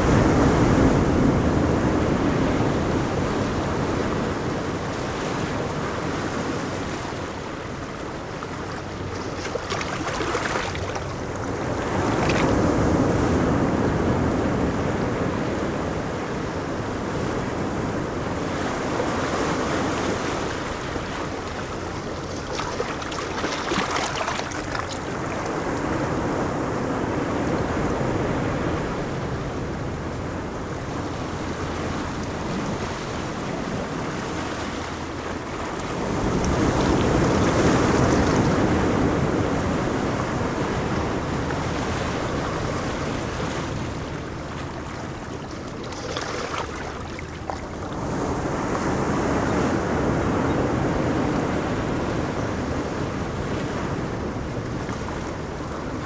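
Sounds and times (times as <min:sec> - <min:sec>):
ocean waves breaking: 0:00.0 - 0:56.0
wind on microphone: 0:00.0 - 0:56.0.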